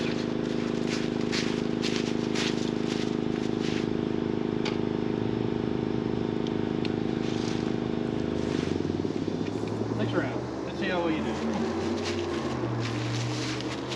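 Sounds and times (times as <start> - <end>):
engine droning: 0.0 - 13.9.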